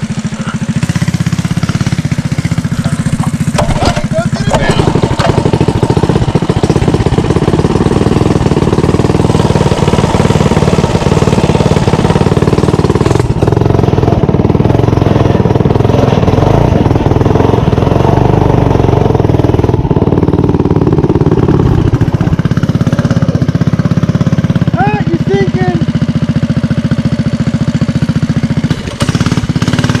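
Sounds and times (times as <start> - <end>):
small engine running: 0.0 - 30.0.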